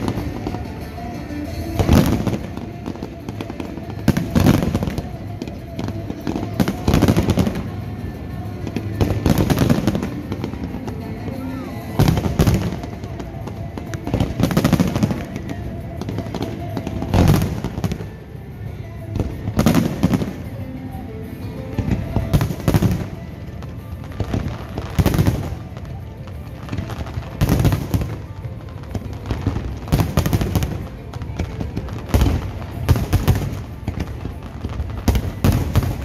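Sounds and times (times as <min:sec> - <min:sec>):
fireworks bursting with loud bangs: 0:00.0 - 0:36.0
music playing: 0:00.0 - 0:36.0.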